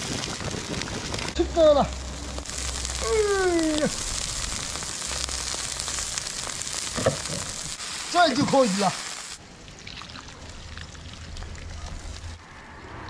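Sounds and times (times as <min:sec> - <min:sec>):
liquid simmering with sizzle: 0:00.0 - 0:12.5.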